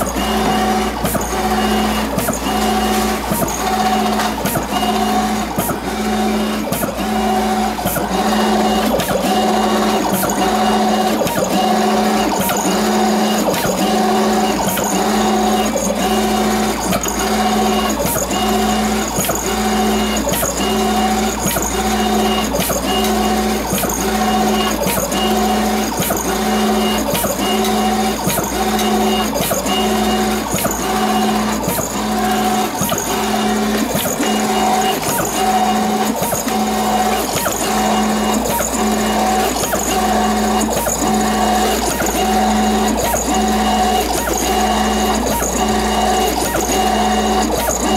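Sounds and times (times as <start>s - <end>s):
plotter carriage motor whining: 0.0s - 47.9s.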